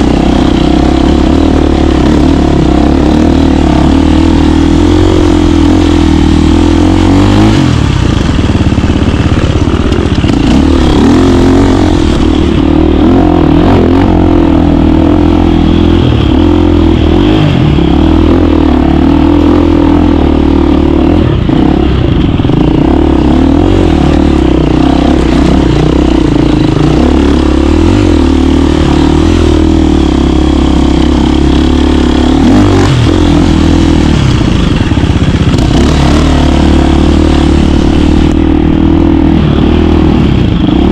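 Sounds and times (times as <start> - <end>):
dirt bike engine running loud: 0.0 - 40.9.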